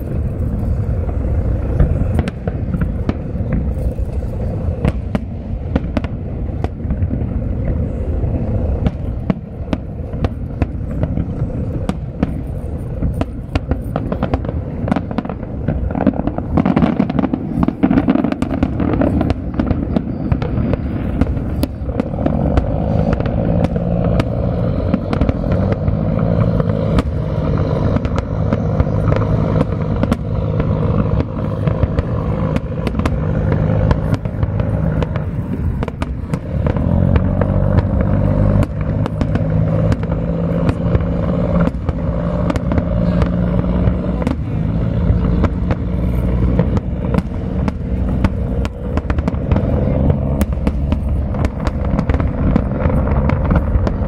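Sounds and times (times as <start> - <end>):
fireworks bursting with bangs: 0.0 - 54.0
fireworks crackling: 0.0 - 54.0.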